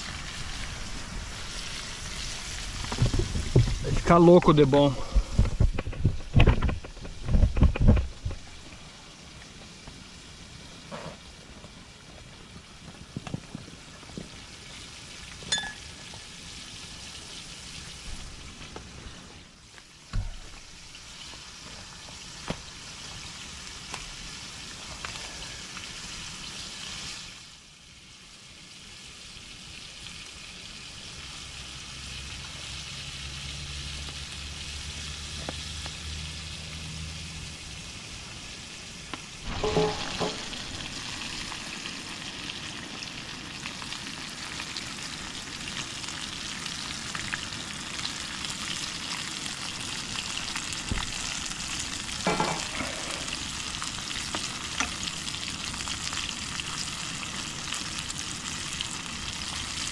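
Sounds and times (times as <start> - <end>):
fish frying in oil: 0.0 - 59.9.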